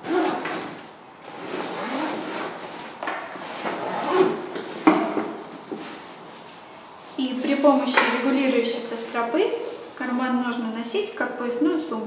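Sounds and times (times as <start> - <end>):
backpack fabric rustling and scraping: 0.0 - 10.0.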